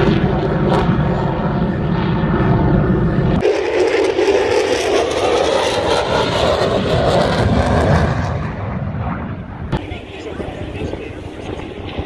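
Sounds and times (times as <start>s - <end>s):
fighter jet flying past: 0.0s - 12.0s.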